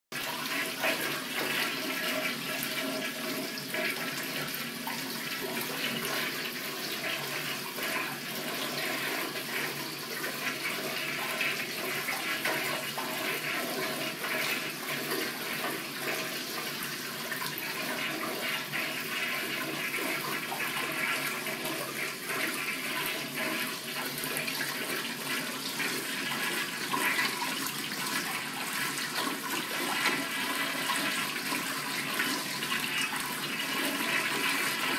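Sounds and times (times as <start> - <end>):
toilet flushing continuously: 0.1 - 34.9.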